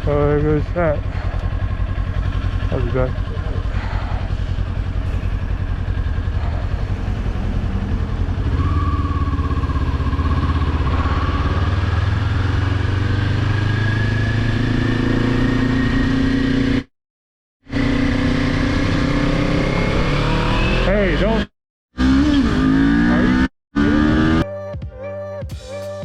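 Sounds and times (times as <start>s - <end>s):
motorcycle engine accelerating: 0.0s - 16.9s, 17.6s - 24.5s.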